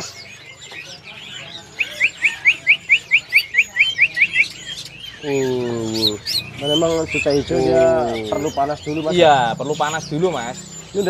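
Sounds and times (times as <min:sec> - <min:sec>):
faint chirps of many birds: 0:00.0 - 0:11.0
songbird whistling song: 0:00.0 - 0:11.0.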